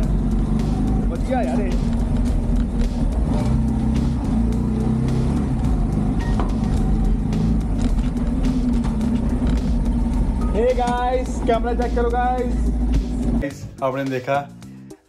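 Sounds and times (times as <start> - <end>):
motorcycle engine droning: 0.0 - 13.4.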